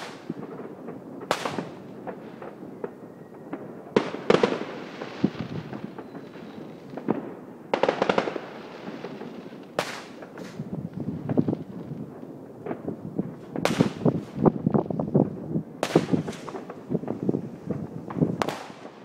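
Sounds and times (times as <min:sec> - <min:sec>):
distant firework pops: 0:00.0 - 0:12.0, 0:12.6 - 0:19.0
fireworks bangs and crackling: 0:00.0 - 0:19.0.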